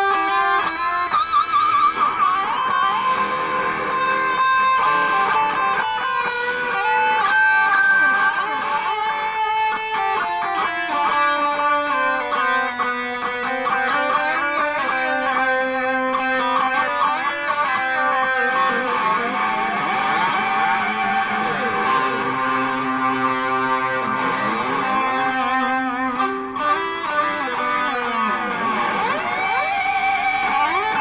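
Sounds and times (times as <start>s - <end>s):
electric guitar through effects pedal: 0.0s - 31.0s.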